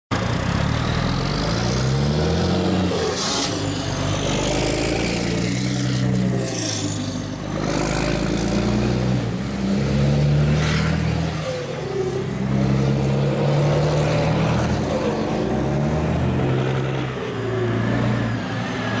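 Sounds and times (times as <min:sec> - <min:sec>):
truck diesel engines running: 0:00.1 - 0:19.0.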